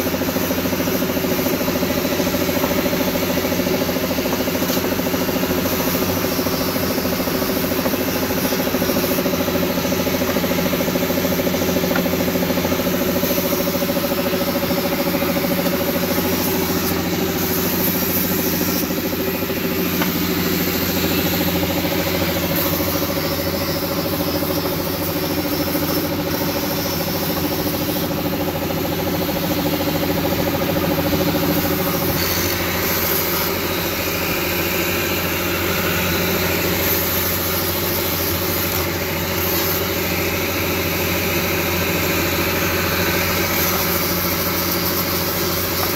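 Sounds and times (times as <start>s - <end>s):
angle grinder grinding brake pads: 0.7s - 45.9s.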